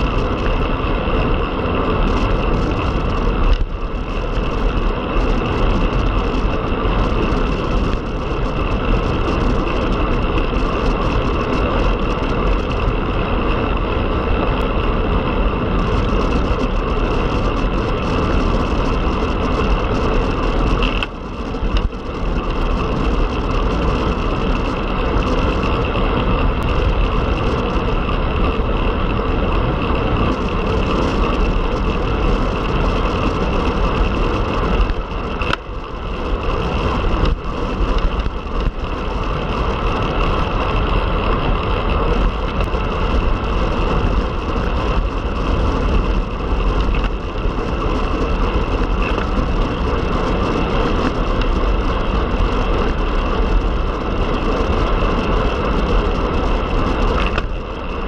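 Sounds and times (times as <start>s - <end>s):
tyre and road noise: 0.0s - 58.0s
wind buffeting microphone: 0.0s - 58.0s.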